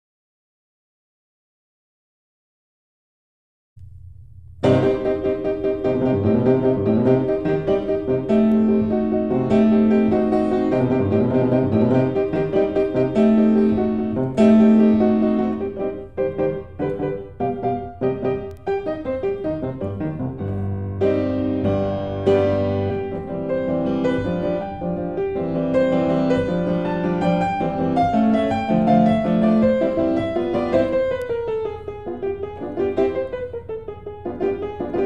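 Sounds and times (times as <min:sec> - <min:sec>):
piano music: 0:04.6 - 0:35.0.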